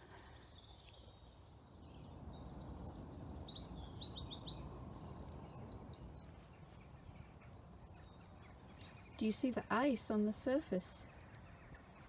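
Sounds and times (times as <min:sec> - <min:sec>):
small songbird singing: 0:00.4 - 0:12.0.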